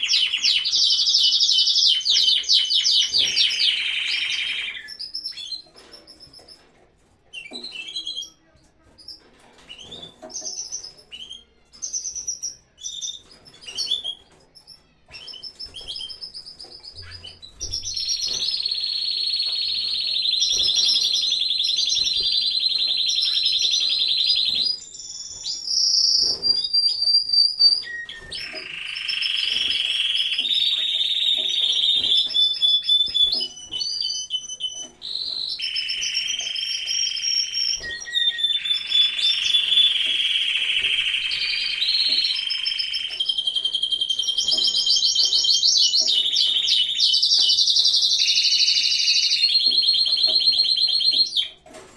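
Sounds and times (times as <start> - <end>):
canaries singing and trilling: 0.0 - 51.9.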